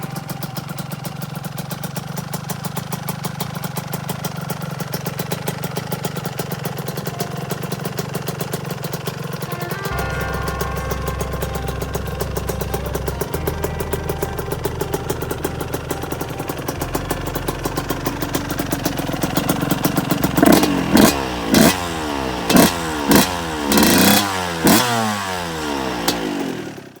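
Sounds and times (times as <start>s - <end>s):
two-stroke engine idling and revving: 0.0s - 27.0s.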